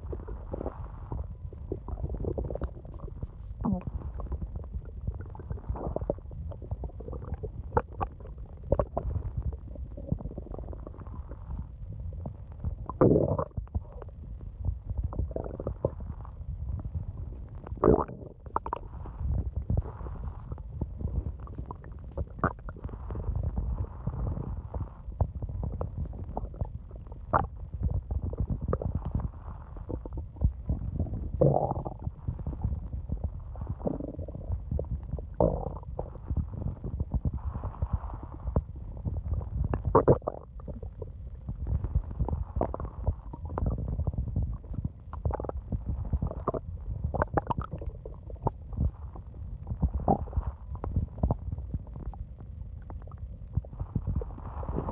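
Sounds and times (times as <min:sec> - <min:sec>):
stomach growling: 0:00.0 - 0:54.9.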